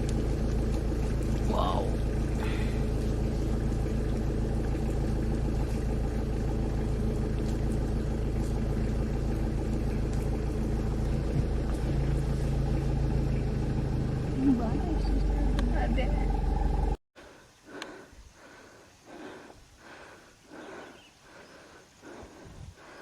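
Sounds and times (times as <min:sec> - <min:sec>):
vehicle engine running low speed: 0:00.0 - 0:23.0.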